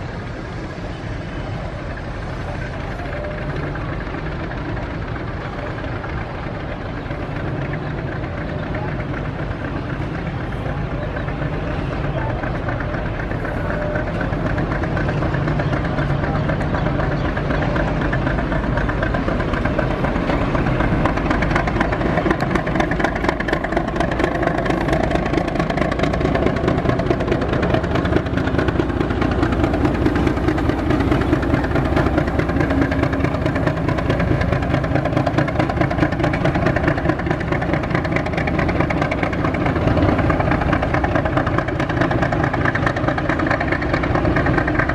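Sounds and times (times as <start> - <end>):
locomotive diesel engine pulsing: 0.0 - 44.9.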